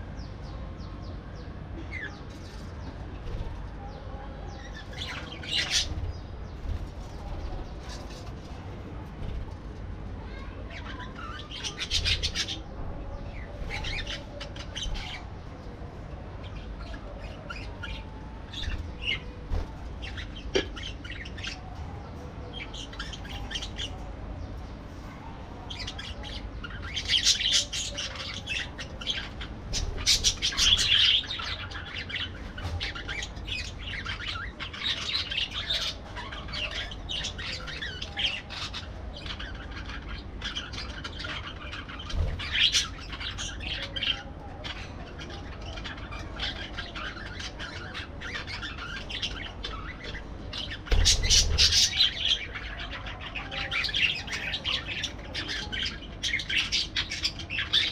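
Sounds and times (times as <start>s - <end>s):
parakeets chirping and squawking: 1.9s - 3.8s, 4.6s - 15.7s, 16.4s - 24.7s, 25.6s - 57.9s.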